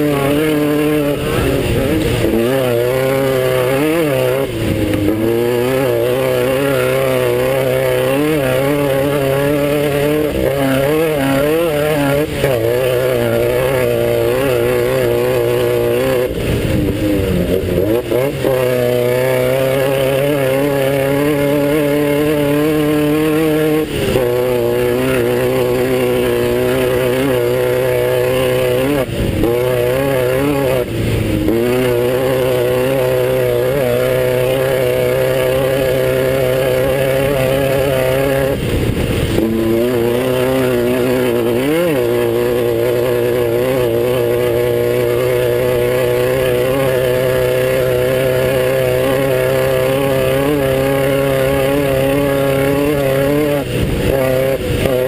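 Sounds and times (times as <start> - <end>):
race car engine running hard: 0.0 - 55.0.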